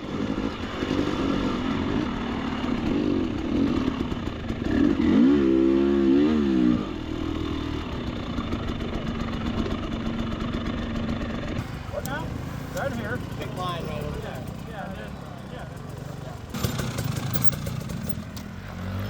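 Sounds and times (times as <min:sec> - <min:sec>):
dirt bike engine revving: 0:00.0 - 0:08.5, 0:11.6 - 0:19.0.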